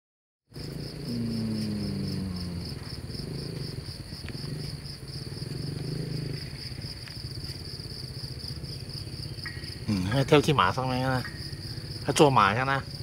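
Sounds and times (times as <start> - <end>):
insects chirping: 0.5 - 13.0.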